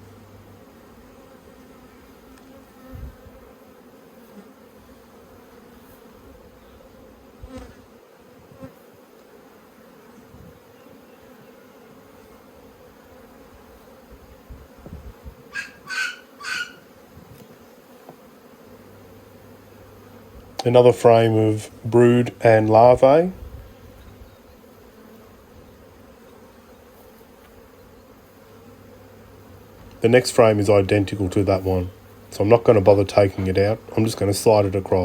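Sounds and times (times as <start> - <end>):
honeybees humming: 0.0 - 35.0.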